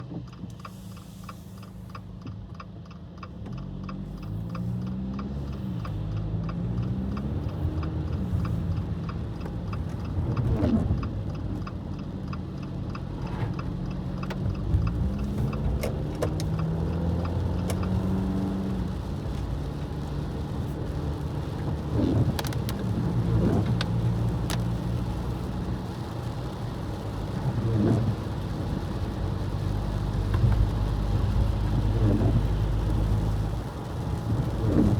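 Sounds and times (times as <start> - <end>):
road rumble: 0.0 - 34.9
car engine revving: 3.4 - 34.9.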